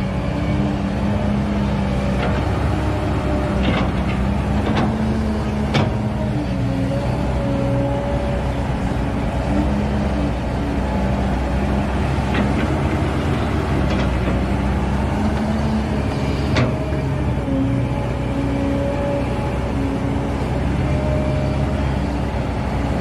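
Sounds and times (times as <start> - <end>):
excavator diesel engine under load: 0.0 - 23.0.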